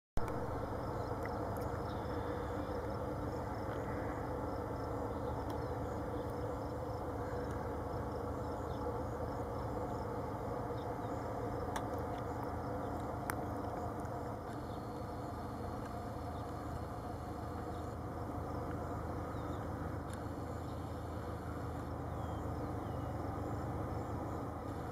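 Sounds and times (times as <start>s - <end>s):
propeller plane engine drone: 0.2s - 24.9s.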